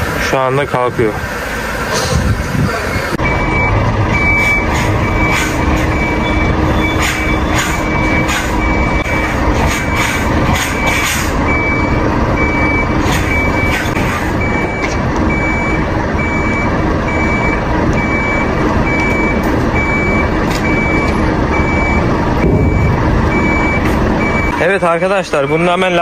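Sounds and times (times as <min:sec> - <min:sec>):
diesel engine running: 0:00.0 - 0:26.0
reversing alarm beeps: 0:03.2 - 0:24.6, 0:25.3 - 0:26.0.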